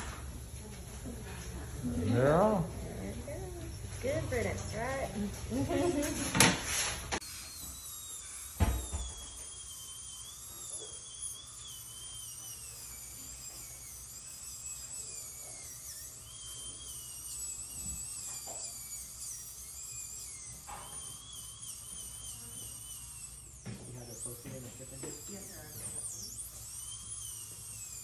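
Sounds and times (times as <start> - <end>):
dental drill whining: 0.0 - 28.0.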